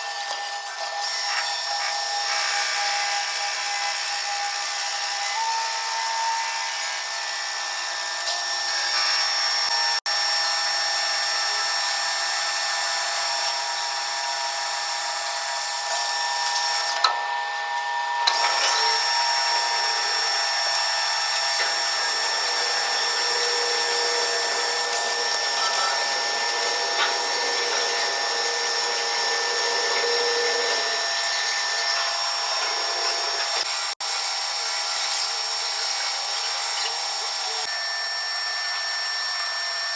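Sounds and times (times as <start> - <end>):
metal lathe whine: 0.0 - 39.9.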